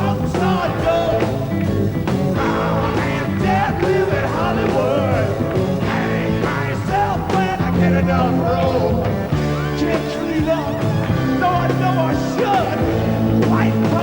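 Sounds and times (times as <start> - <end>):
bending lead guitar line: 0.0 - 14.0
held bass notes: 0.0 - 14.0
live rock band playing: 0.0 - 14.0.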